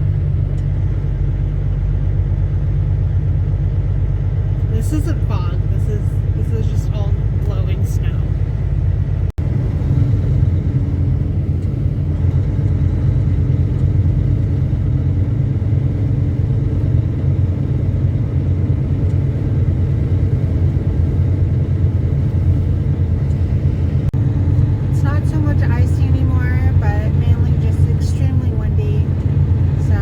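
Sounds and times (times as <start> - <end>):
truck engine and road noise: 0.0 - 30.0.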